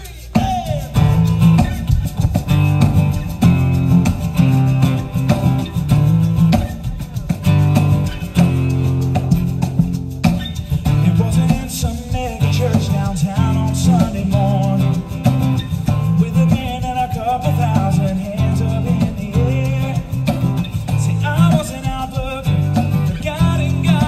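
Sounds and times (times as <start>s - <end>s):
acoustic guitars strumming chords: 0.0s - 24.0s.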